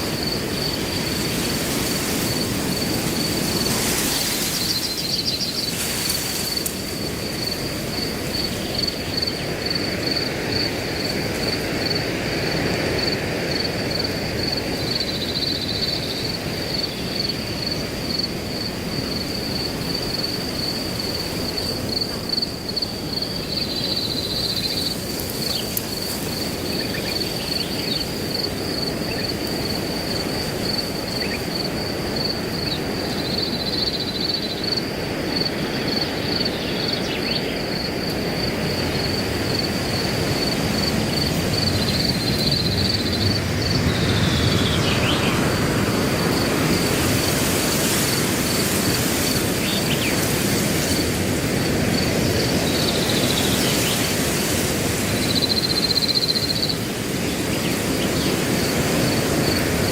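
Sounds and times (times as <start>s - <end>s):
cricket chirping: 0.0s - 59.9s
wind blowing through grass: 0.0s - 59.9s.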